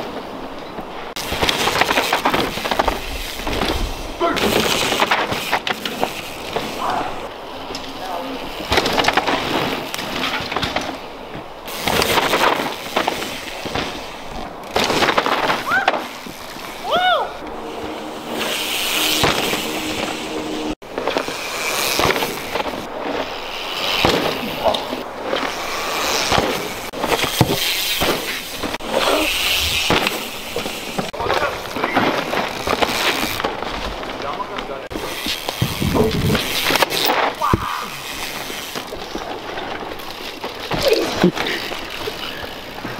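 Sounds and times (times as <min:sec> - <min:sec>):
bike tyres skidding on dirt: 0:00.0 - 0:42.9.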